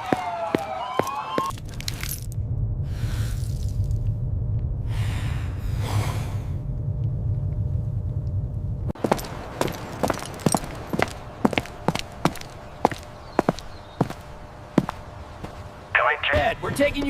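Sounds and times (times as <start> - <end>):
low steady rumble: 1.5 - 17.0.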